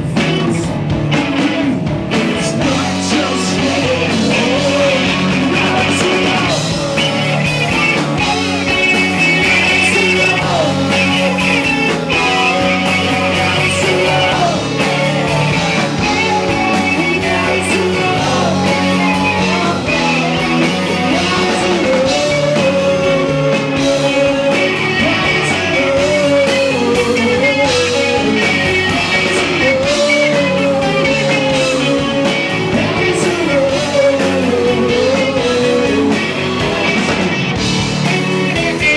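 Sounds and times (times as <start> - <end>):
rock band playing: 0.0 - 38.9
sung melody: 1.3 - 38.9.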